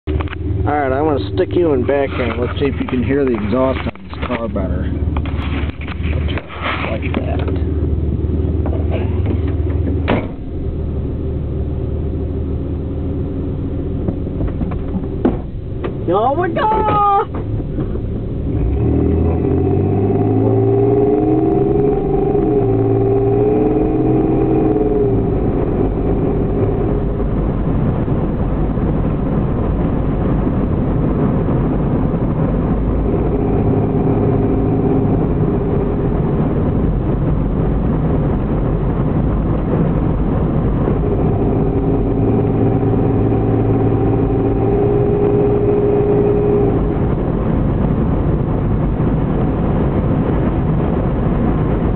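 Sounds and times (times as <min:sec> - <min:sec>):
car exhaust accelerating: 0:00.0 - 0:51.9
road rumble: 0:00.0 - 0:51.9.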